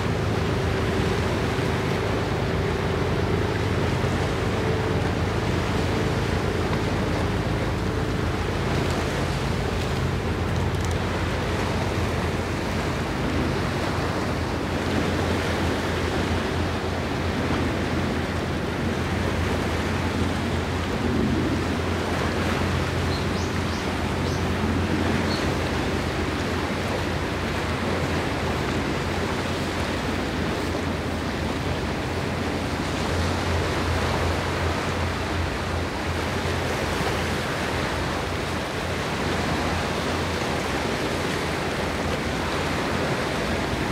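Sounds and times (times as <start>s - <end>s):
water on shore: 0.0s - 43.9s
wind: 0.0s - 43.9s.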